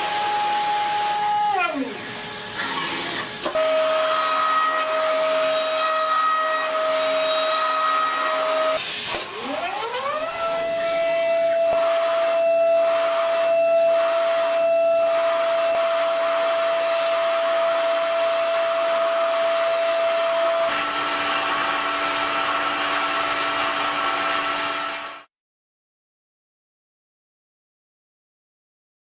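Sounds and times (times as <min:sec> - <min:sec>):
machine motor whirring: 0:00.0 - 0:25.2.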